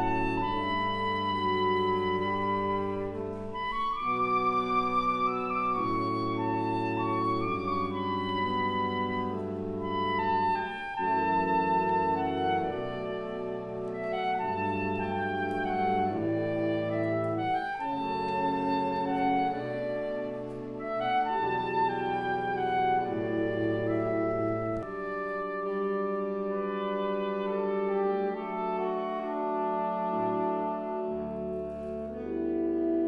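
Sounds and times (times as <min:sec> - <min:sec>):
wind instruments playing held chords: 0:00.0 - 0:33.0.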